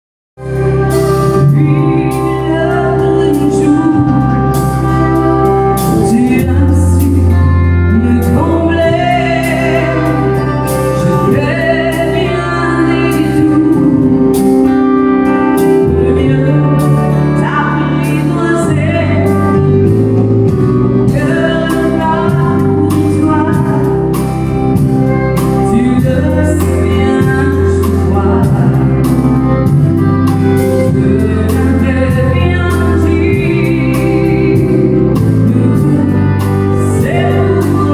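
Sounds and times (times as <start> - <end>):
woman singing into microphone: 0.4 - 29.8, 30.5 - 37.9
acoustic guitar: 0.4 - 37.9.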